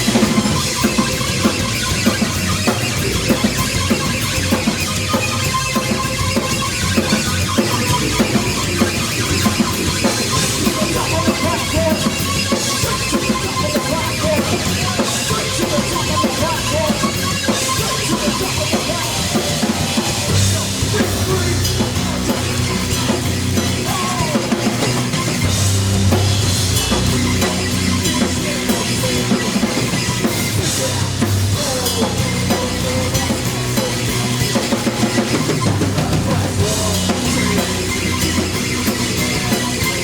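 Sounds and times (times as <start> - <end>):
bass lines: 0.0 - 40.0
drum kit beat: 0.0 - 40.0
heavy rock band playing: 0.0 - 40.0.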